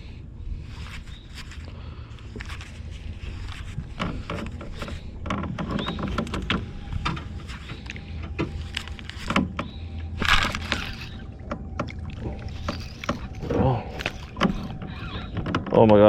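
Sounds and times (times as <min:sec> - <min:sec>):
steady low hum: 0:00.0 - 0:16.0
fishing gear clicks and knocks: 0:00.8 - 0:16.0.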